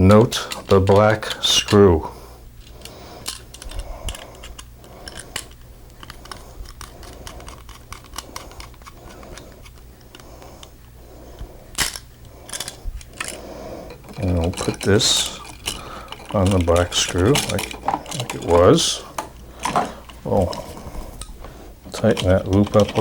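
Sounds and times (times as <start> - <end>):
clicks and taps of tools and wire: 2.6 - 10.9, 11.8 - 23.0.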